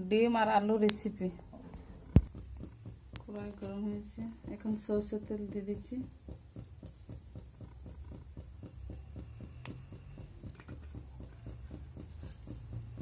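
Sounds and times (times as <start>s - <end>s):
oil popping: 1.7s - 13.0s
hot oil ticking and humming: 2.2s - 13.0s.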